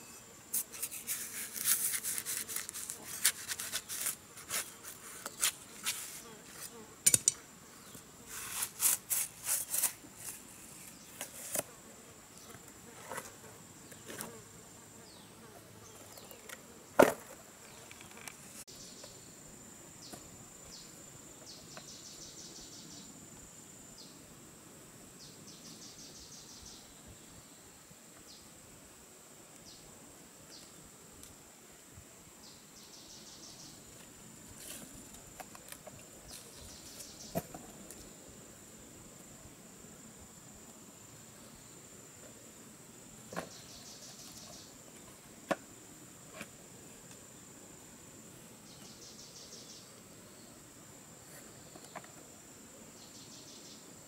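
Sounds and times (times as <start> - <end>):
insect drone: 0.0 - 54.0
rapid insect chirping: 0.0 - 54.0.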